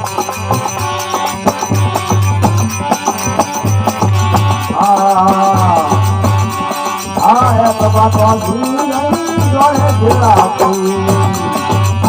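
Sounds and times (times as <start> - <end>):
drum rhythm: 0.0 - 12.0
wavering melody with vibrato: 0.0 - 12.0.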